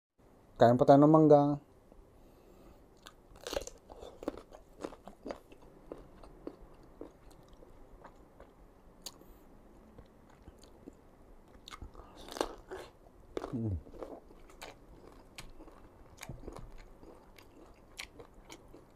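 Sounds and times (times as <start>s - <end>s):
crunchy bites and chewing: 3.0s - 9.3s, 10.0s - 18.9s.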